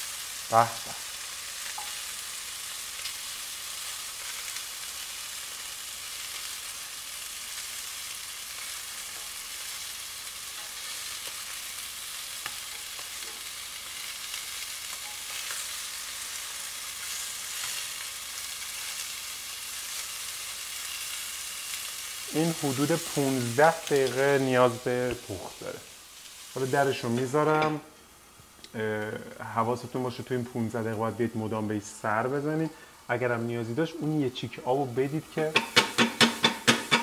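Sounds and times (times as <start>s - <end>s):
chicken frying sizzle: 0.0s - 37.0s.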